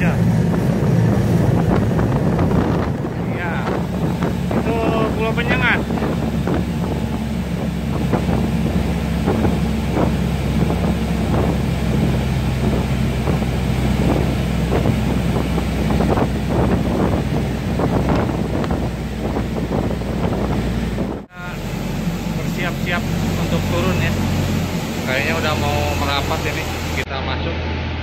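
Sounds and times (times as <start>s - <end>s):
water splashing against hull: 0.0s - 27.0s
wind noise on microphone: 0.0s - 27.1s
motorboat engine running: 0.0s - 28.0s.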